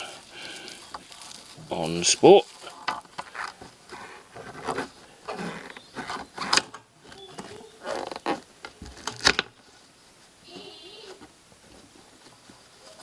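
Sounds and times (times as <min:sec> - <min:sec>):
plastic and metal rustles and clicks: 0:00.0 - 0:13.0.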